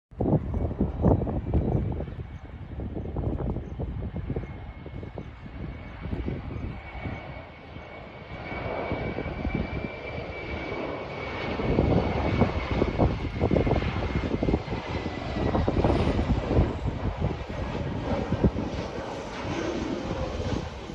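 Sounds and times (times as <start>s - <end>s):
jet airliner engine whine: 0.1s - 20.9s.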